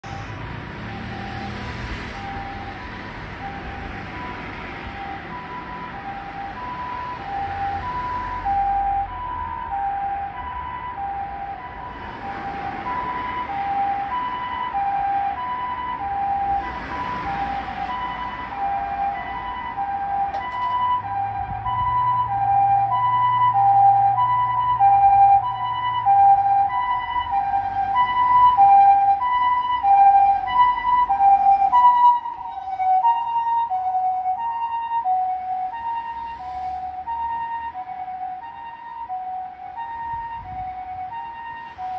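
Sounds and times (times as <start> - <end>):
two-tone electronic siren: 0.0 - 41.9.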